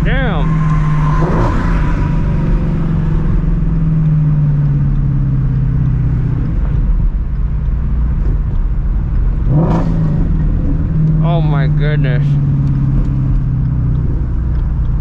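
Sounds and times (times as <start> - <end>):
car exhaust drone: 0.0 - 15.0.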